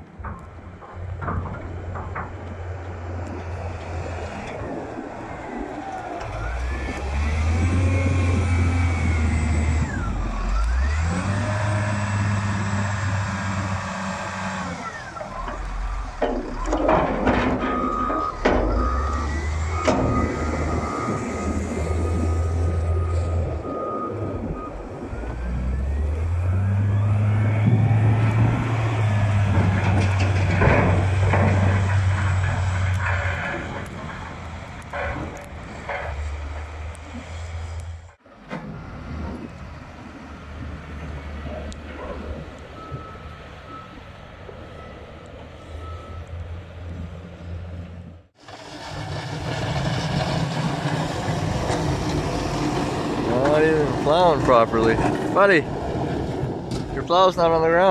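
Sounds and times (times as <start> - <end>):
diesel engine revving: 0.3 - 57.9.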